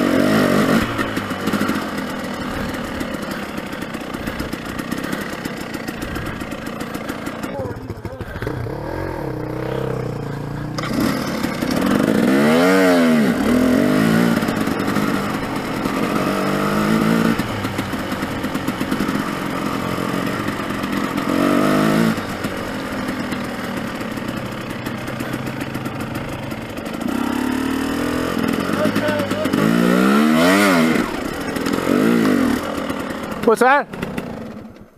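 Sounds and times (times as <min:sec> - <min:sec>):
dirt bike engine revving: 0:00.0 - 0:34.8.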